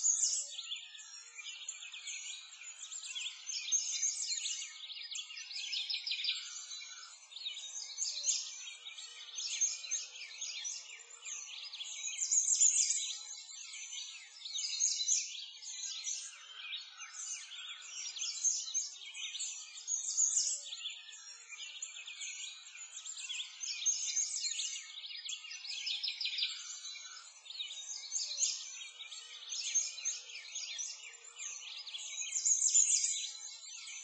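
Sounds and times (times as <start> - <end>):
small birds chirping and twittering: 0.0 - 34.0.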